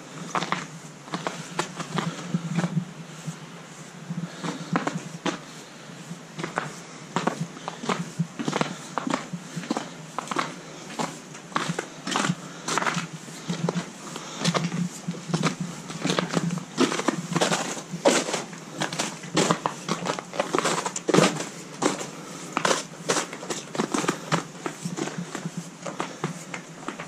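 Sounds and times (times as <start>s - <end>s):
footsteps crunching on snow: 0.1s - 27.0s.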